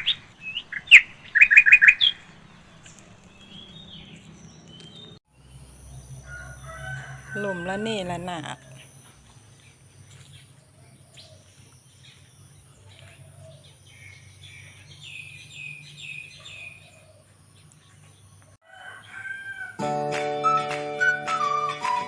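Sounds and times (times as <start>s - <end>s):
birds chirping: 0.0s - 19.6s.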